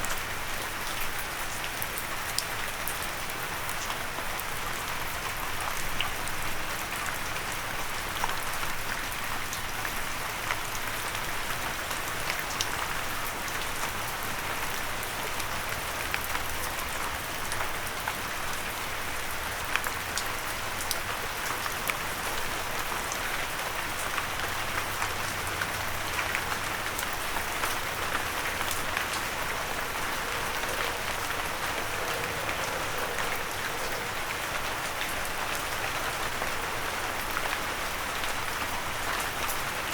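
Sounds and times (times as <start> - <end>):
rain on a windowsill: 0.0 - 39.9.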